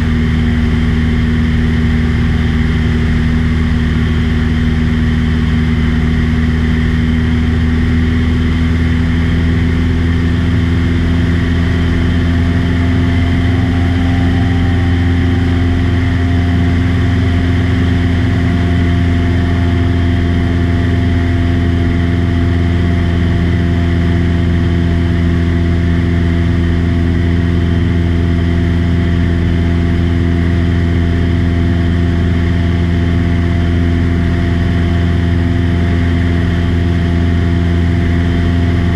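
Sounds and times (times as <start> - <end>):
small aircraft engine drone: 0.0 - 38.9.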